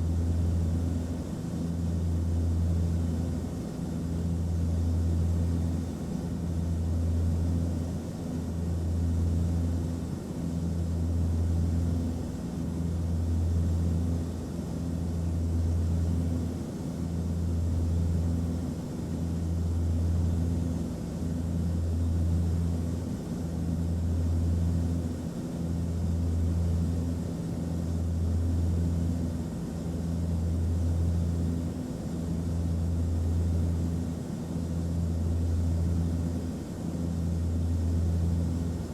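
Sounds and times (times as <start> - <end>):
aircraft engine drone: 0.0 - 38.9.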